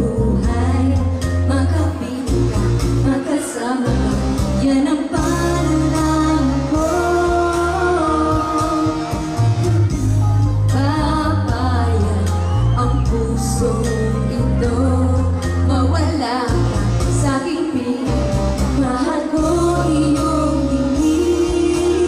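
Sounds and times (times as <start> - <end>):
heavy bass line: 0.0 - 3.1, 3.9 - 17.4, 18.0 - 22.0
pop song with singing: 0.0 - 22.0.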